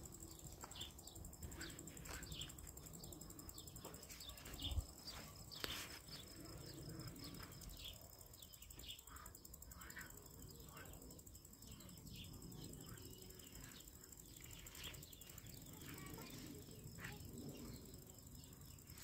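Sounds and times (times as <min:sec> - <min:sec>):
birds chirping: 0:00.0 - 0:19.0
high insect whine: 0:00.0 - 0:19.0.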